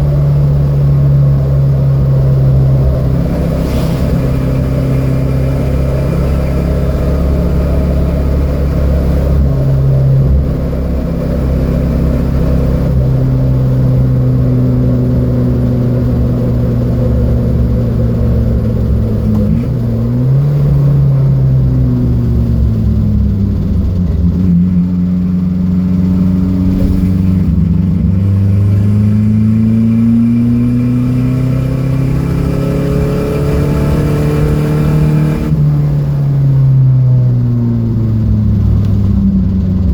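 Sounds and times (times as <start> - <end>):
race car engine revving: 0.3 - 36.1.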